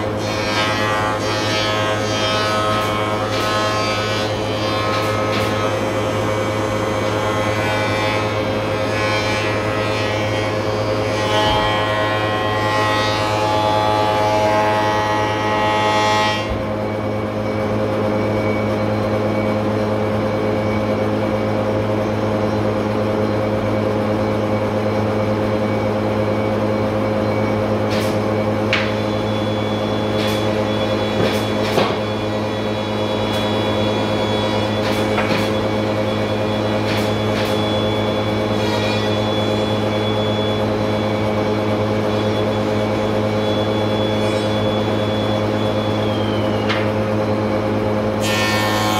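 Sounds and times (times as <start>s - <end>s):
dust extractor hum: 0.0s - 48.9s.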